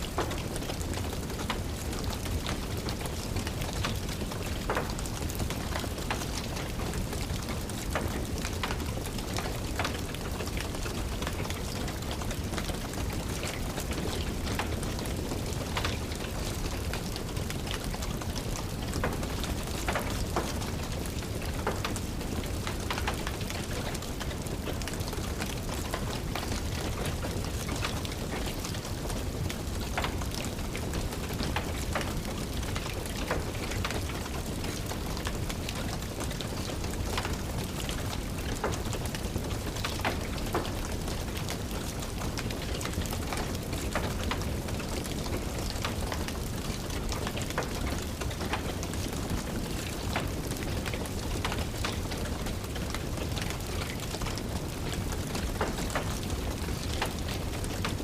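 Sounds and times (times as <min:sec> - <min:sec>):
steady rain: 0:00.0 - 0:58.0
wood fire crackling: 0:00.0 - 0:58.0.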